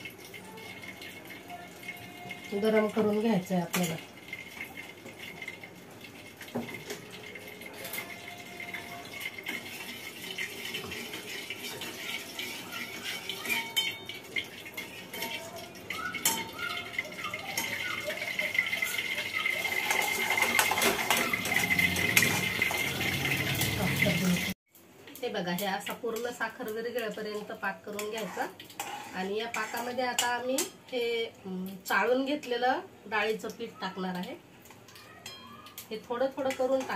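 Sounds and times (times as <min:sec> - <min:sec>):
steel utensils clinking on pans: 0:00.0 - 0:24.6, 0:25.6 - 0:30.8, 0:35.2 - 0:36.9.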